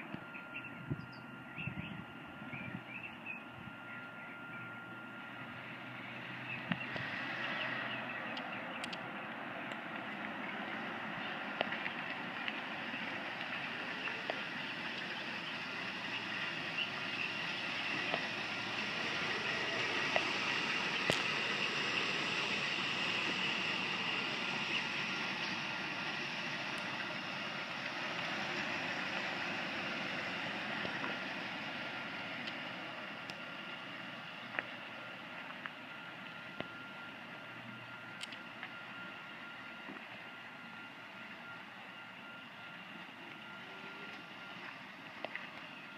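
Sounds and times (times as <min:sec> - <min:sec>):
faint steady whine: 0:00.0 - 0:45.9
vehicle rumble and hiss: 0:00.0 - 0:45.9.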